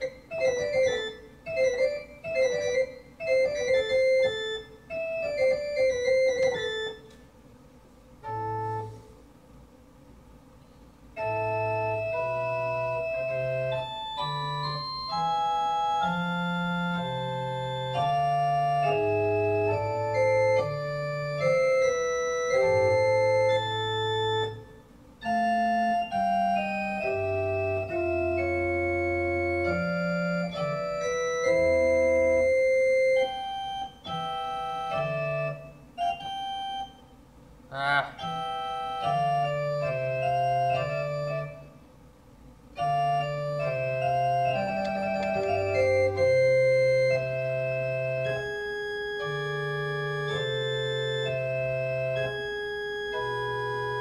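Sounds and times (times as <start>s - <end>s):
organ playing sustained chords: 0.0s - 9.6s, 11.1s - 42.0s, 42.6s - 54.0s.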